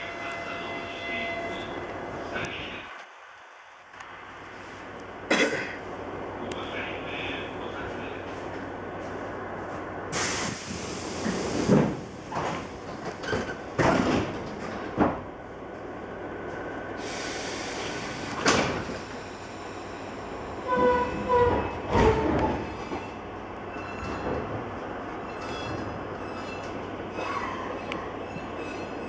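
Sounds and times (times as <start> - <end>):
train rumbling slowly: 0.0 - 29.0.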